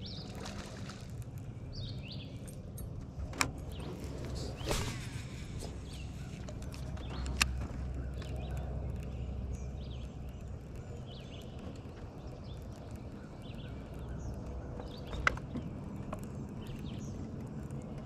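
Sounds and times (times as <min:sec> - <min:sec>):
birds chirping: 0:00.0 - 0:18.0
low steady hum: 0:00.0 - 0:18.0.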